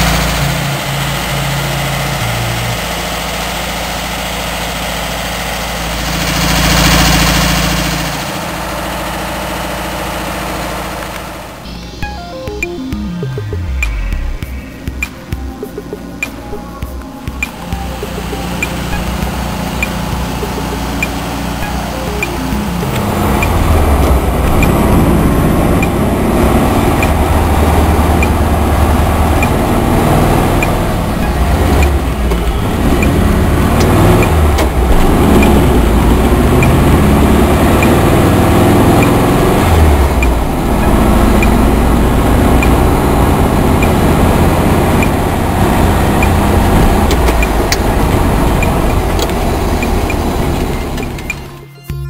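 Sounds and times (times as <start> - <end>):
car engine running: 0.0 - 51.6.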